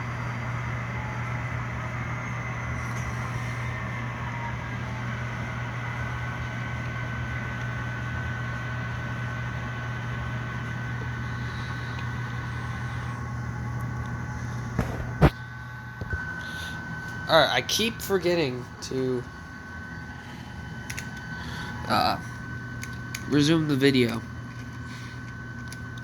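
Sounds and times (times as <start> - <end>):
model locomotive low hum: 0.0 - 26.0
thin high whine: 0.0 - 26.0.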